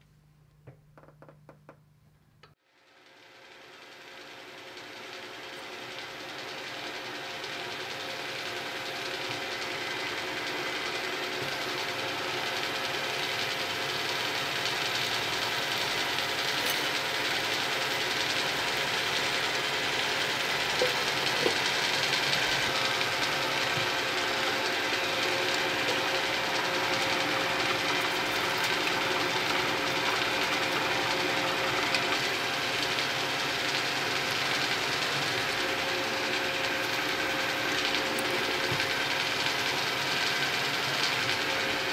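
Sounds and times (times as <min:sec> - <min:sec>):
machine spindle hum: 0:02.4 - 0:41.9
drill bit boring into steel: 0:04.5 - 0:41.9.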